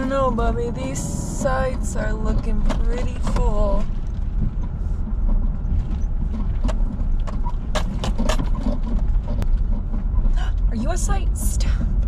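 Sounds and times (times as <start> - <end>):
car rumble inside cabin: 0.0 - 12.0
sharp knocks and rattles: 1.4 - 12.0.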